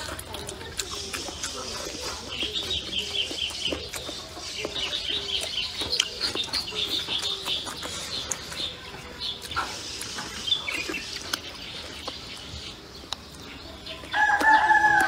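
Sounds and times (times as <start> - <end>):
chickens clucking: 0.0 - 15.0
close chewing: 0.0 - 15.0
high chirping: 0.8 - 14.8.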